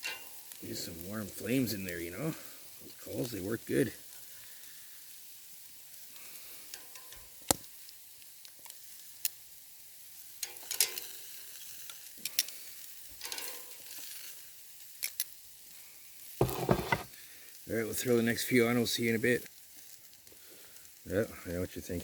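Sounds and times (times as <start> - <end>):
fire crackles and pops: 0.0 - 16.4, 17.1 - 22.0
food sizzling on a grill: 0.0 - 22.0.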